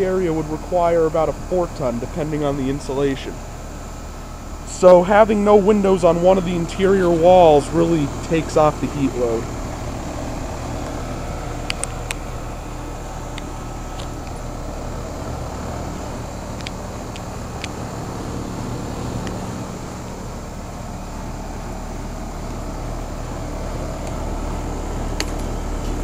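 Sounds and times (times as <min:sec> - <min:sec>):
compressor hum: 0:00.0 - 0:26.0
condenser fan rushing: 0:00.0 - 0:26.0.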